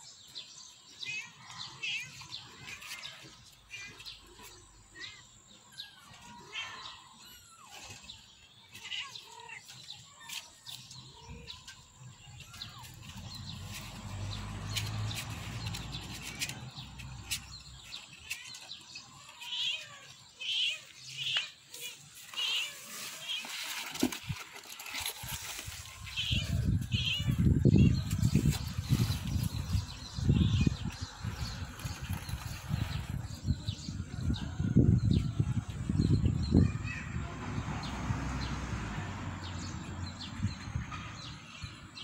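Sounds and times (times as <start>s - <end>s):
small birds chirping: 0.0s - 38.6s, 39.4s - 42.0s.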